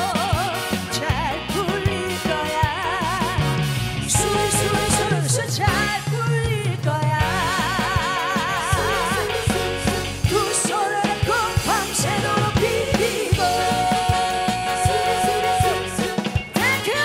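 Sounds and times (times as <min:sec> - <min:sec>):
band with drum beat: 0:00.0 - 0:17.0
woman singing into microphone: 0:00.0 - 0:17.0.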